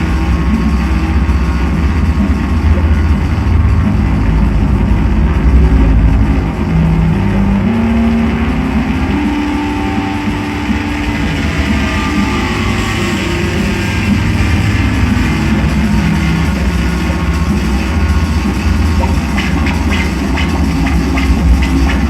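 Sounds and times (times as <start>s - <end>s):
distorted noise: 0.0s - 22.0s
heavy low drone: 0.0s - 22.0s.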